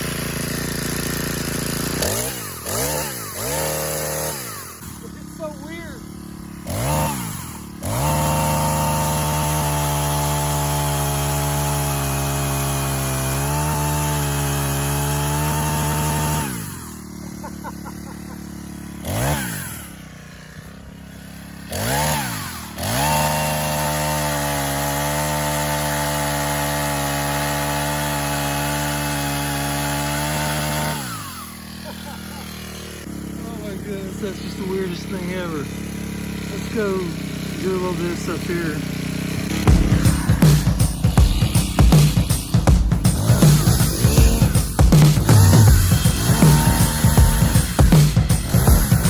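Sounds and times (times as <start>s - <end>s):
chainsaw engine revving and idling: 0.0s - 49.0s.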